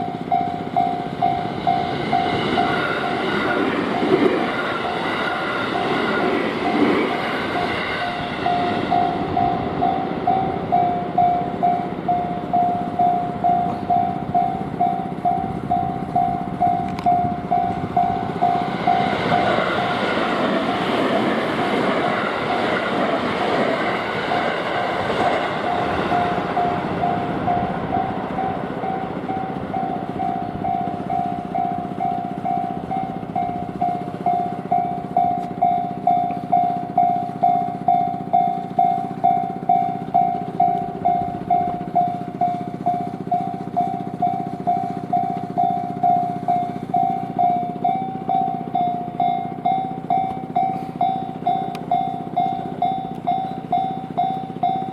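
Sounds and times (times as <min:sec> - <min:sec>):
level crossing warning bell: 0:00.0 - 0:54.9
train rumble: 0:00.0 - 0:54.9.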